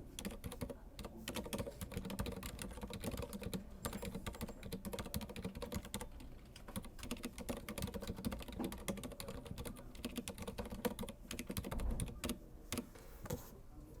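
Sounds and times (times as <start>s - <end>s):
soft keyboard typing: 0.0s - 13.5s.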